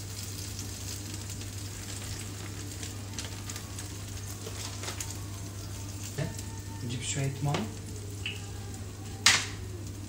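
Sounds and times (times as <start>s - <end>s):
toast sizzling in oil: 0.0s - 10.0s.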